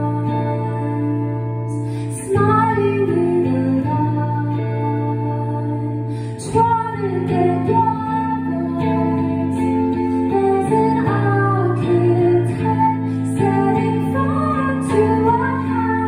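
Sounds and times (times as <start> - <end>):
electric guitar chords: 0.0 - 16.0
woman singing: 0.0 - 16.0.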